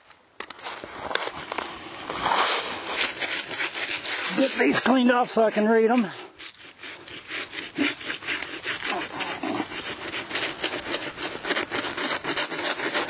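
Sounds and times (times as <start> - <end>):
scrubbing stone: 2.2 - 13.0.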